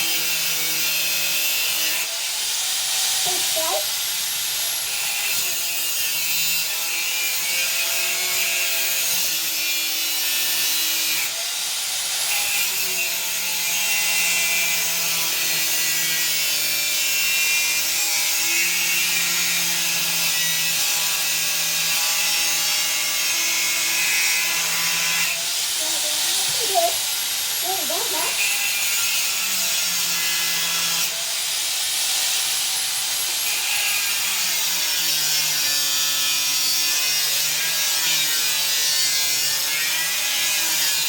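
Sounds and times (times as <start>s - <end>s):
angle grinder cutting steel: 0.0s - 41.0s.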